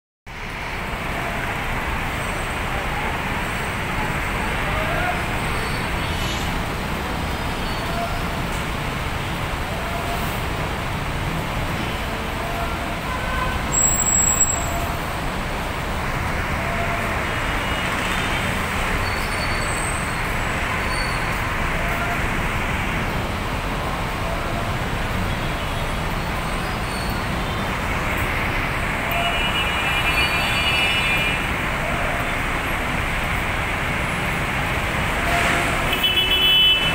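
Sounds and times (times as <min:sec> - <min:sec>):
heavy road traffic: 0:00.2 - 0:36.9.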